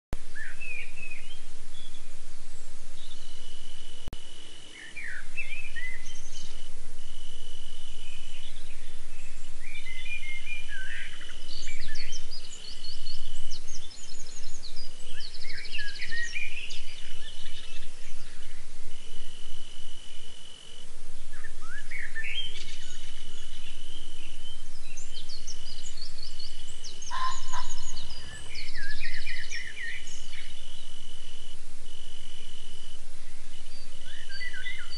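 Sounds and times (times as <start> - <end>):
low steady hum: 0.2 - 34.9
chirping bird calls: 0.3 - 34.9
high insect trill: 0.4 - 34.9.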